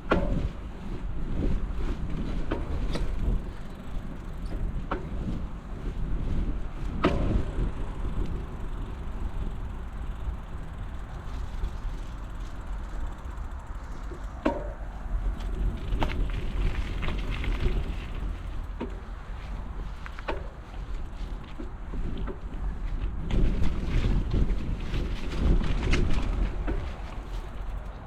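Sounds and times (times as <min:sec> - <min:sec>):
bicycle rumbling over rough path: 0:00.0 - 0:28.0
bike knocks and rattles: 0:00.0 - 0:28.0
wind buffeting microphone: 0:00.0 - 0:28.0.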